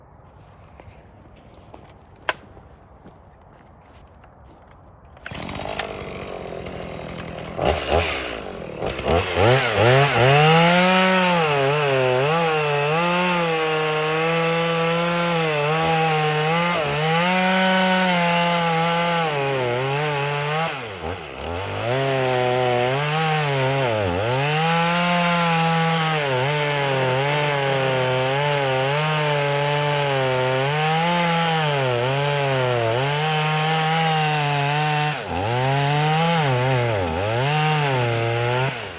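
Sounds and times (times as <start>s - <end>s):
chainsaw cutting firewood: 4.4s - 38.9s.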